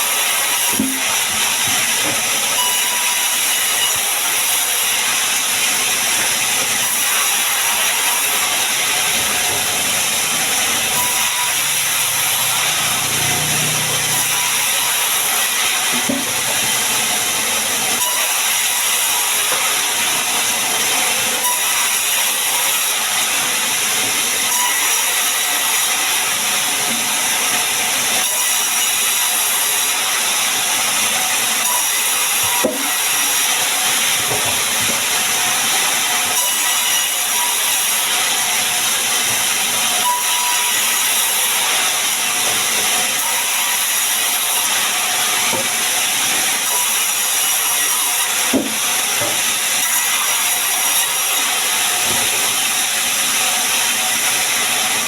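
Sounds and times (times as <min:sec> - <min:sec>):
saw cutting wood hissing: 0:00.0 - 0:55.0.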